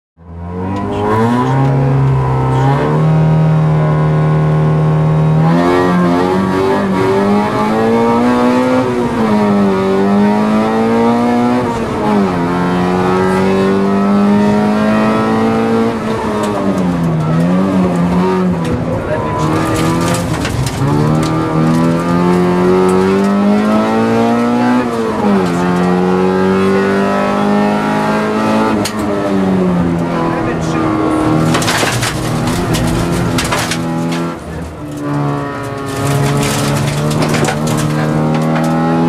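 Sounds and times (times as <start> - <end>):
rally car engine revving: 0.2 - 39.0.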